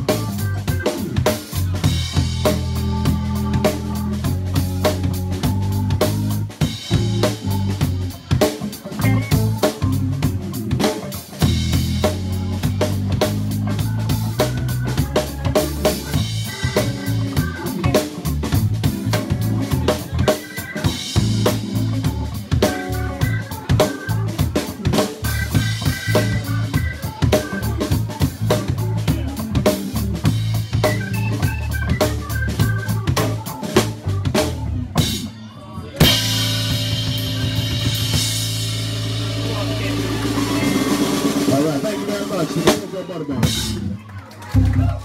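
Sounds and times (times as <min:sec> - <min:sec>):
drum kit with cymbals and snare: 0:00.0 - 0:45.0
electric guitar: 0:00.0 - 0:45.0
organ keyboard: 0:00.0 - 0:45.0.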